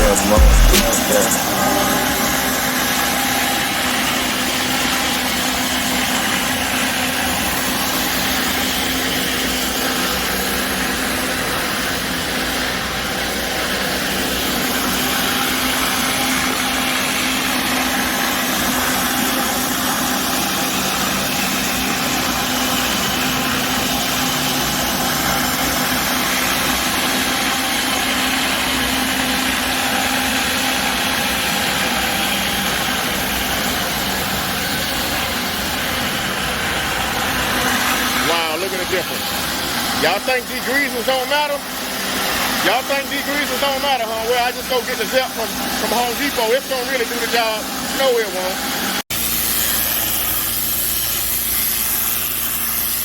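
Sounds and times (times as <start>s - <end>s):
pressure washer engine running: 0.0s - 53.0s.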